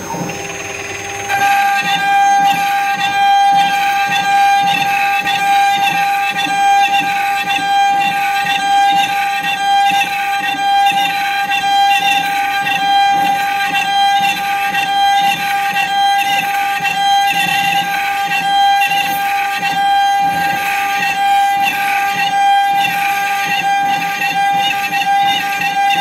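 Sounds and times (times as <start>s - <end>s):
bit carving wood: 0.0s - 26.0s
router spindle whining: 0.0s - 26.0s.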